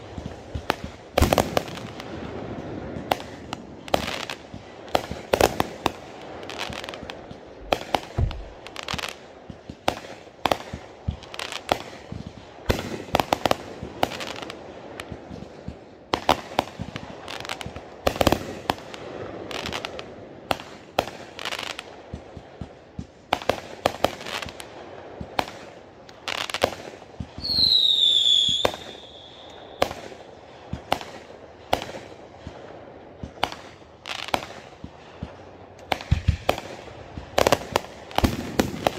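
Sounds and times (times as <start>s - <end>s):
fireworks bangs and pops: 0.0s - 38.9s
whistling firework: 0.0s - 38.9s.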